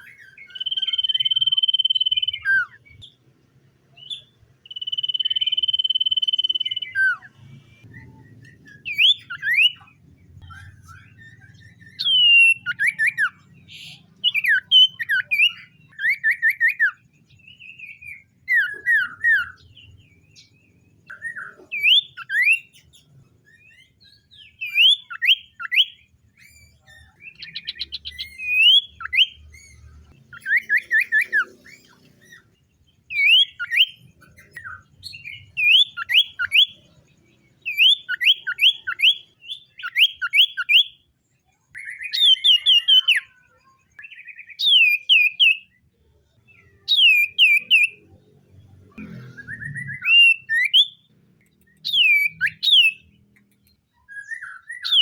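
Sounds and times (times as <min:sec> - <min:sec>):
bird whistled song: 0:00.0 - 0:03.2, 0:03.9 - 0:48.3, 0:49.0 - 0:55.0.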